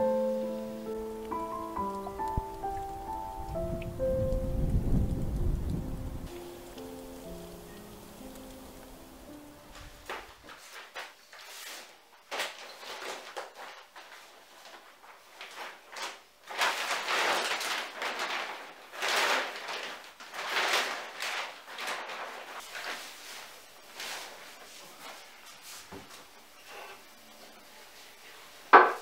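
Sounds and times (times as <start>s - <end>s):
plastic sheeting crinkling: 0.0s - 29.0s.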